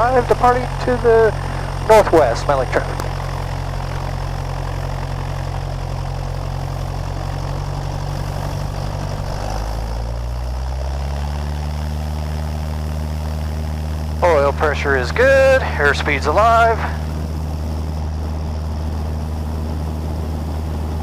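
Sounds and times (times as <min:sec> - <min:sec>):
propeller plane engine running: 0:00.0 - 0:21.0.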